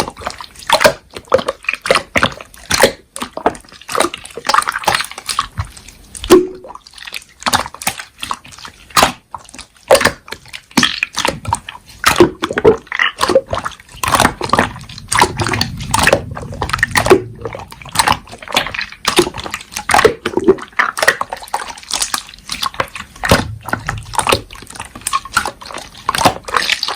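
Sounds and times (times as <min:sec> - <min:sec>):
slime squelching by hand: 0:00.0 - 0:26.9.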